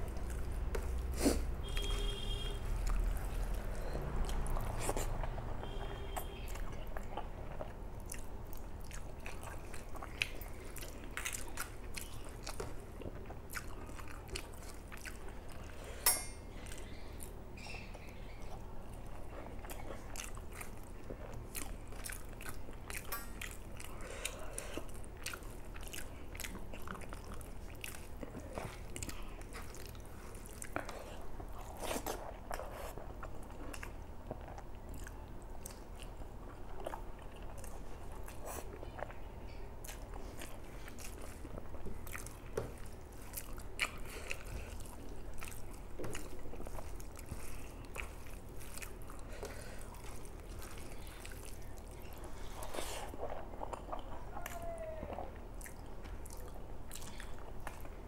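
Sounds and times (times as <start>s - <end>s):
person chewing: 0.0s - 17.4s, 18.0s - 58.0s.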